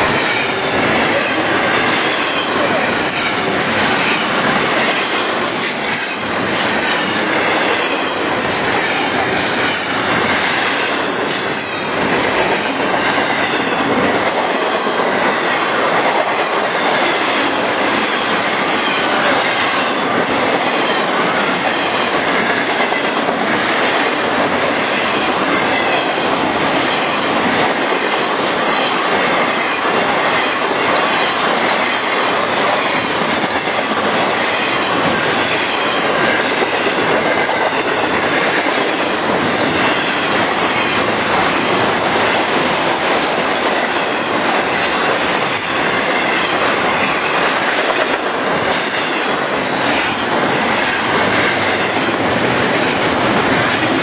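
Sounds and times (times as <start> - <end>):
train wheels rolling on rail: 0.0 - 54.0.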